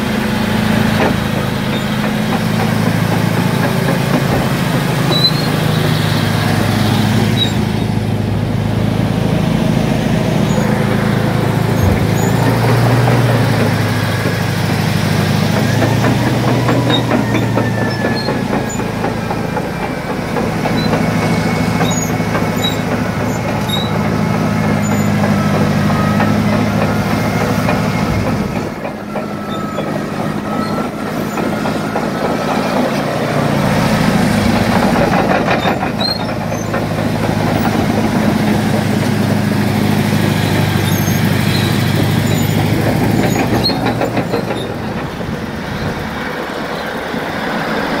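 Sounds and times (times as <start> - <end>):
diesel engine idling: 0.0 - 48.0.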